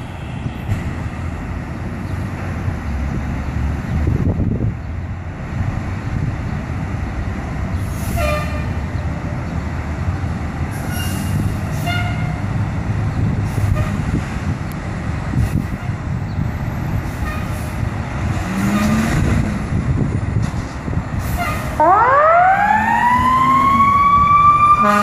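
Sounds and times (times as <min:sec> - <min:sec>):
diesel engines rumbling: 0:00.0 - 0:25.0.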